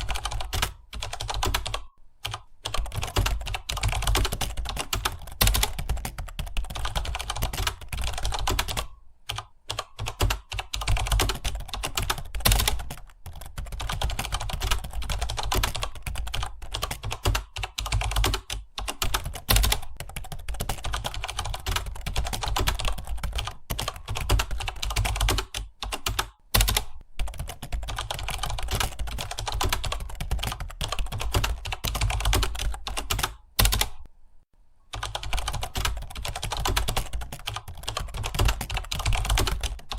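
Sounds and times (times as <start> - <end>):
fast typing on computer keyboard: 0.0 - 34.1, 34.9 - 39.9.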